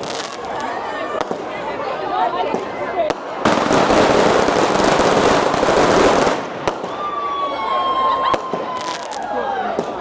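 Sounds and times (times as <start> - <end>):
firecrackers crackling: 0.0 - 7.4, 8.0 - 10.0.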